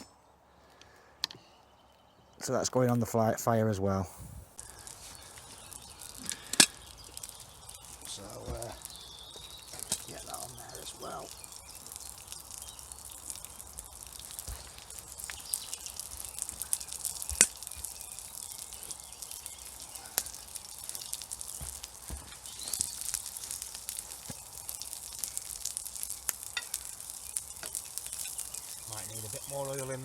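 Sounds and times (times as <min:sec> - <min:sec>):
food sizzling in oil: 0:04.6 - 0:30.0
oil popping and crackling: 0:04.6 - 0:30.0.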